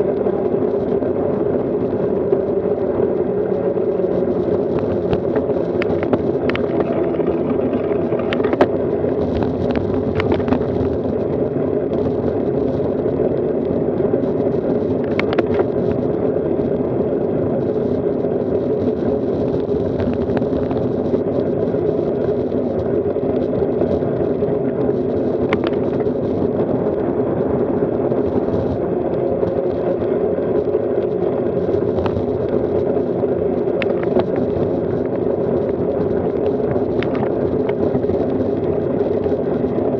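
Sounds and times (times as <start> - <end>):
bicycle tyre rumble on road: 0.0 - 39.9
wind noise: 0.0 - 39.9.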